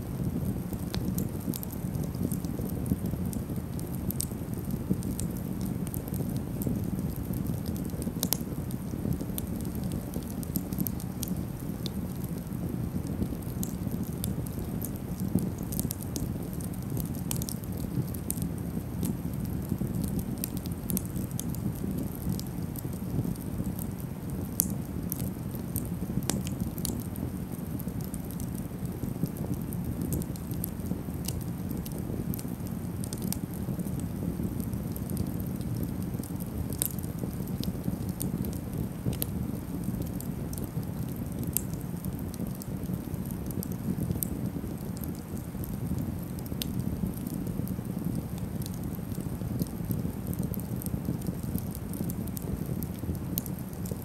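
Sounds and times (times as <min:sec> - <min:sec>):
campfire crackling and popping: 0:00.0 - 0:54.0
fire low rumble: 0:00.0 - 0:54.0.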